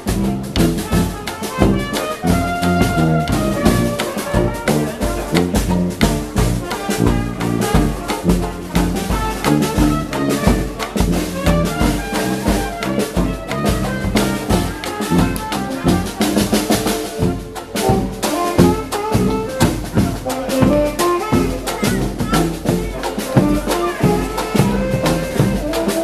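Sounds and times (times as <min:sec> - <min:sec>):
dixieland jazz band playing: 0:00.0 - 0:26.0.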